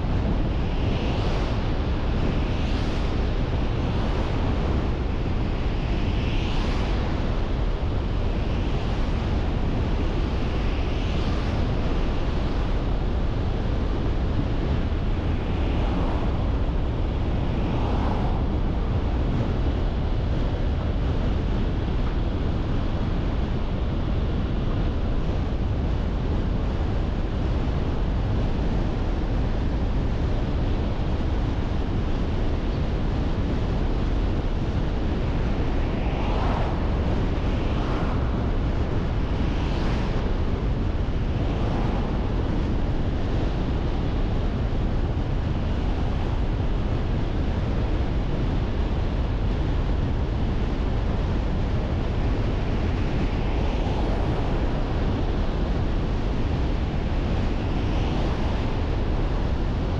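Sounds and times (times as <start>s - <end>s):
road and wind noise with rumble: 0.0s - 59.9s
wind rushing over microphone: 0.0s - 59.9s.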